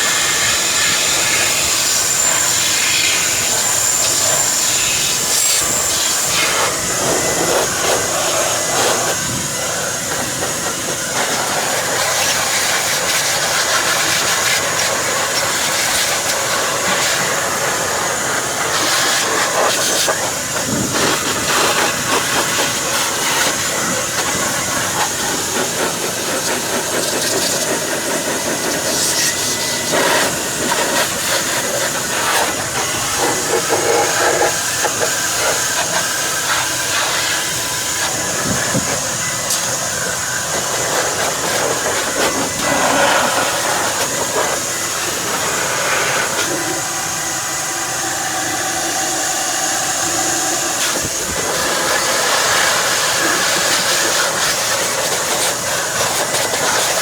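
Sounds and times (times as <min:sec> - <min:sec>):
air tool rushing air: 0:00.0 - 0:56.4
high-pitched whine: 0:00.0 - 0:56.7.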